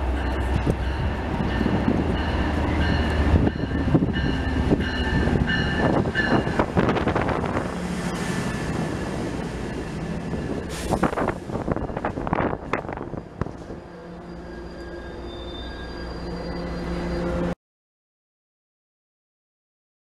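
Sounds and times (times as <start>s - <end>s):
diesel locomotive engine rumbling: 0.0s - 17.6s.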